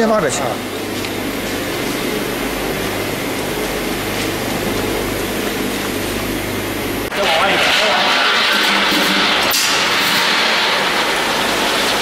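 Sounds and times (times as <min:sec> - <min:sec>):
roasting machine humming: 0:00.0 - 0:12.0.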